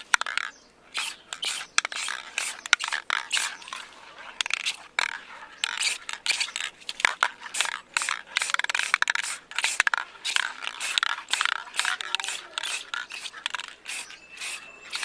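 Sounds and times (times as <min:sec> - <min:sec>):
spray paint can hissing: 0:01.0 - 0:03.8, 0:05.6 - 0:15.0.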